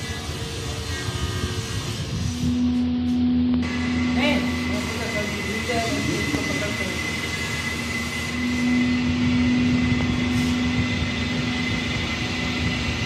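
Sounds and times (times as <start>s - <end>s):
mixing machine motor hum: 0.0s - 13.0s.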